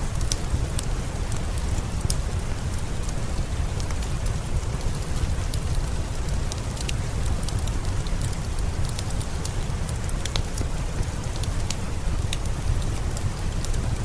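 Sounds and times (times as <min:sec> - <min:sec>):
steady rain: 0:00.0 - 0:14.0
wood fire crackling and popping: 0:00.1 - 0:14.0.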